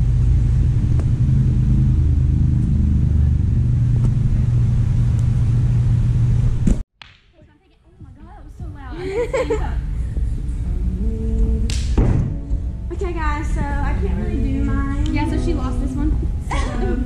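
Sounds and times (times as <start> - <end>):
large fans rumbling: 0.0 - 6.8, 7.4 - 17.0.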